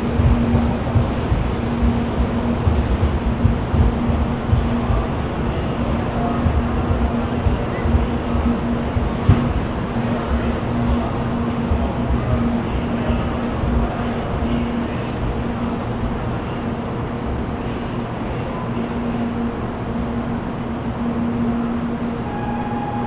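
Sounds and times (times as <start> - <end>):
train rolling rumble: 0.0 - 23.0.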